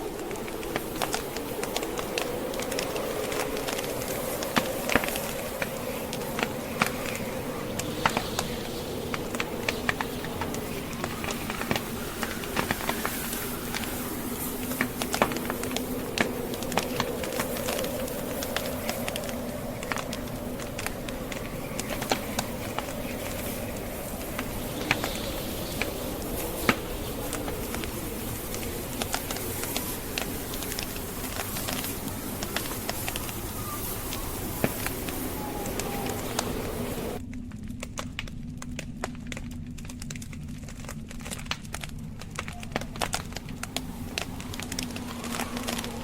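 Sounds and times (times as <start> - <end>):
fire crackling and popping: 0.0 - 46.0
howling wind: 0.0 - 46.0.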